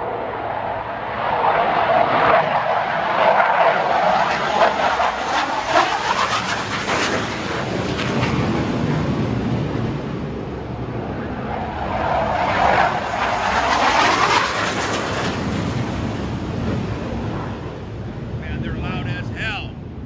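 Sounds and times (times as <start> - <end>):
jet engine roaring overhead: 0.0 - 20.0.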